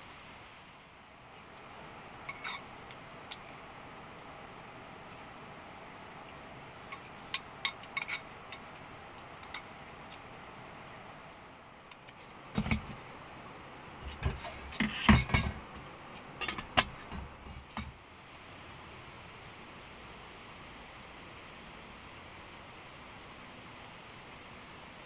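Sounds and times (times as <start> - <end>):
steady faint hiss: 0.0 - 25.0.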